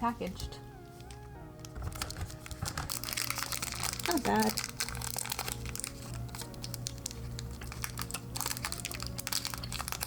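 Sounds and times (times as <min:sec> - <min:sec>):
soft background music: 0:00.0 - 0:10.0
candy wrapper crinkling: 0:01.0 - 0:10.0.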